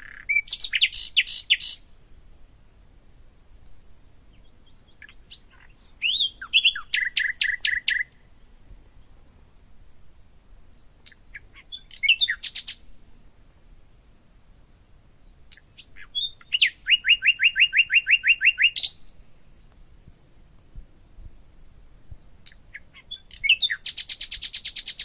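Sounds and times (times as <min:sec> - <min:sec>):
songbird chirps and trill: 0:00.0 - 0:25.0.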